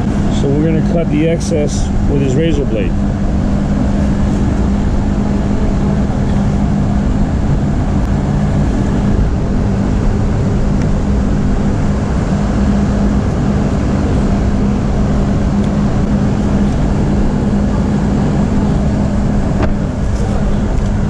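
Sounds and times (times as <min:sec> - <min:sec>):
machinery droning: 0:00.0 - 0:21.0.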